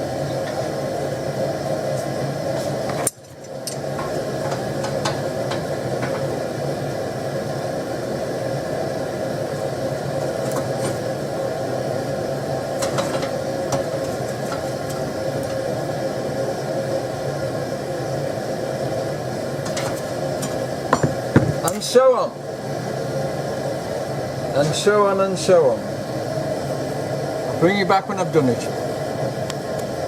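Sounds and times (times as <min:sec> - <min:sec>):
gas burner rushing: 0:00.0 - 0:30.0.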